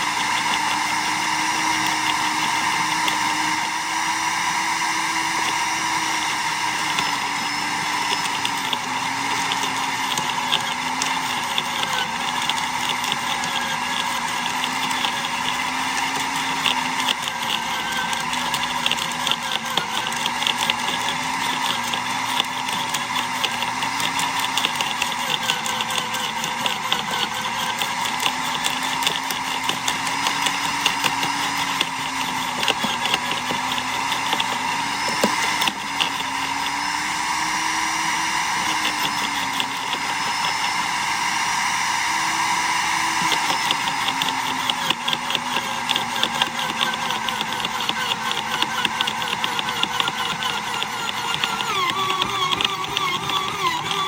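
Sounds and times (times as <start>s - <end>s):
wood being chipped crackling: 0.0s - 54.0s
wood chipper motor whine: 0.0s - 54.0s.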